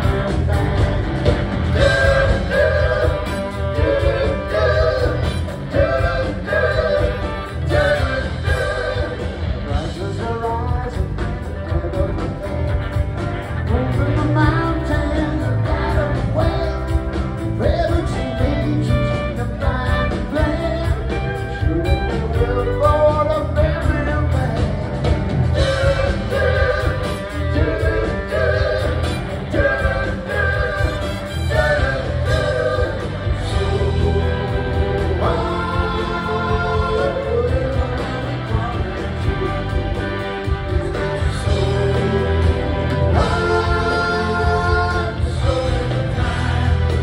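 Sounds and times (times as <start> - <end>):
live rock band playing: 0.0 - 47.0
person singing lead vocals: 1.7 - 12.8, 13.6 - 47.0.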